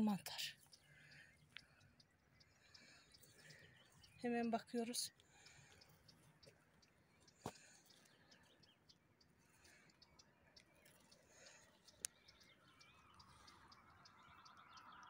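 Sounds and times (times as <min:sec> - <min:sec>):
faint bird chirps: 0:00.0 - 0:15.0
faint outdoor ambience: 0:00.0 - 0:15.0
soft ticks: 0:00.4 - 0:15.0.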